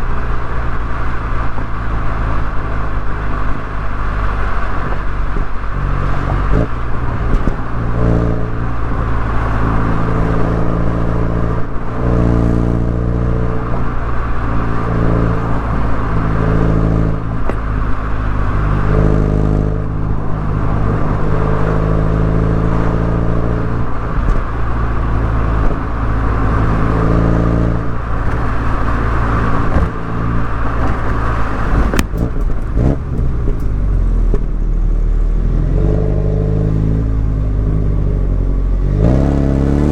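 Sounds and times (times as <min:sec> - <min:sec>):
car engine and exhaust accelerating: 0:00.0 - 0:39.9.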